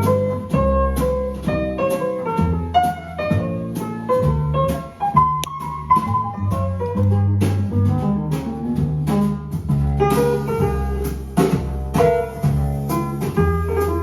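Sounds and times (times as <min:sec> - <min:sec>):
sustained low bass tones: 0:02.4 - 0:14.0.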